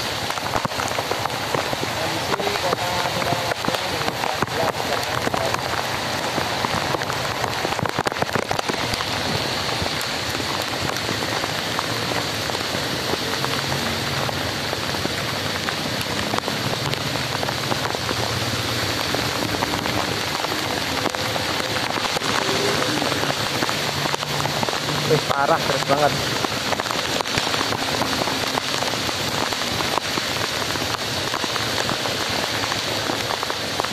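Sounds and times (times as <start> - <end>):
heavy rain hissing: 0.0 - 33.9
raindrops tapping: 0.0 - 33.9.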